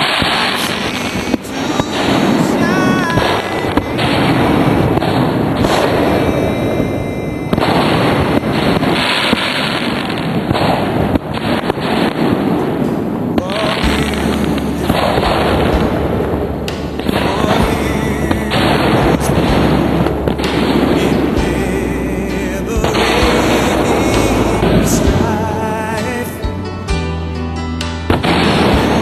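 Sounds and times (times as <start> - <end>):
fireworks bangs: 0.0 - 26.7, 28.1 - 29.0
fireworks crackling: 0.0 - 26.7, 28.1 - 29.0.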